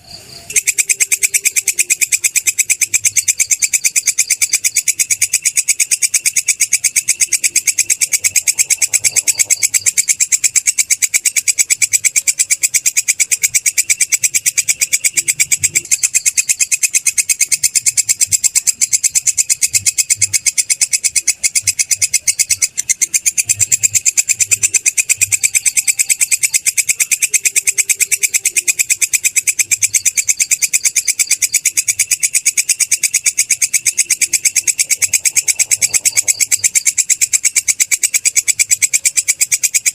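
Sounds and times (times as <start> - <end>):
katydid stridulating: 0.0 - 39.9.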